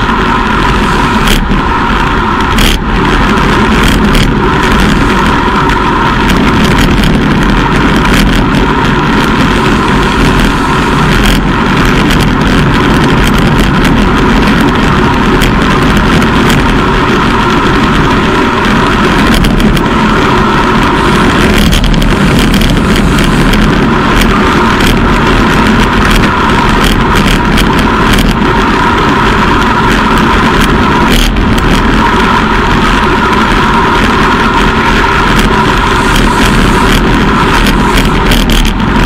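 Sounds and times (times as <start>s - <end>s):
bicycle clicks and knocks: 0.0s - 39.0s
motor traffic: 0.0s - 39.0s
wind and road noise: 0.0s - 39.0s.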